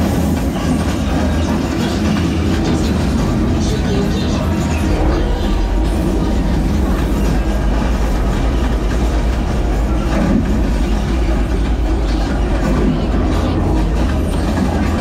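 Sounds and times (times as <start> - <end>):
ride rumbling and clattering: 0.0 - 15.0.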